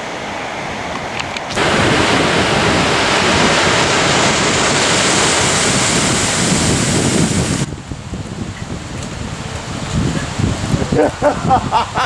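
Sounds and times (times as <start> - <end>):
ocean surf breaking on beach: 0.0 - 12.0
wind buffeting microphone: 0.6 - 12.0.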